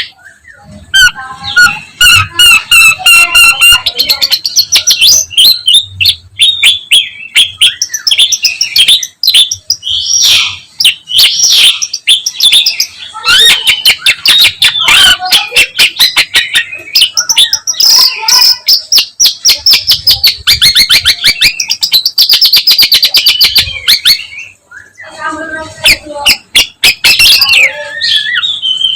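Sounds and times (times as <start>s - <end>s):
shrike singing varied chirps: 0.0s - 28.9s.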